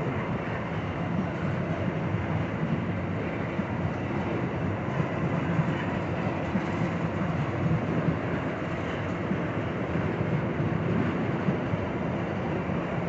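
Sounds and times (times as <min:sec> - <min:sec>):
freight train heavy rail noise: 0:00.0 - 0:13.0.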